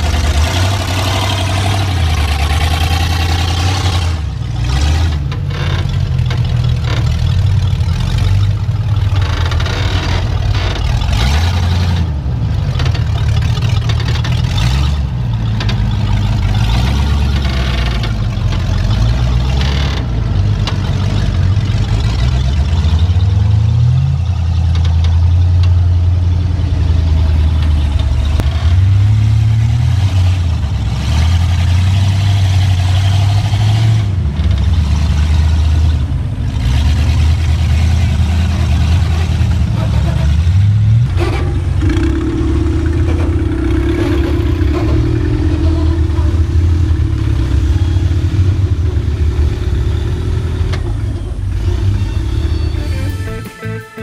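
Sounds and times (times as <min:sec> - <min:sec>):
off-road vehicle engines revving: 0:00.0 - 0:53.5.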